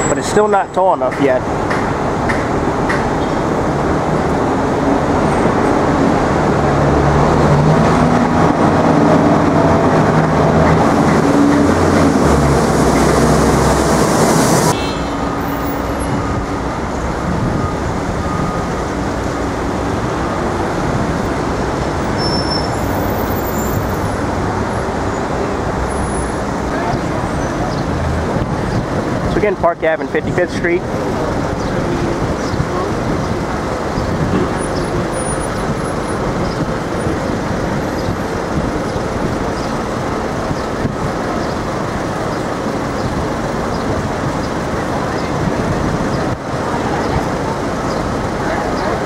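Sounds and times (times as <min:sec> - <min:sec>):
street traffic noise: 0:00.0 - 0:49.0
large vehicle engine running close: 0:01.0 - 0:49.0.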